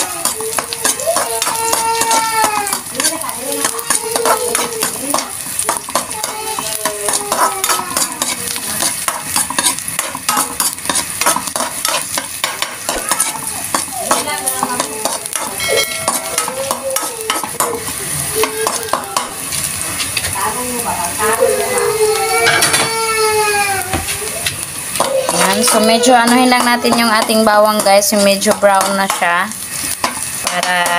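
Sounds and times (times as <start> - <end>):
metal spatula scraping wok: 0.0 - 22.9, 24.8 - 30.9
onions sizzling in oil: 0.0 - 30.9.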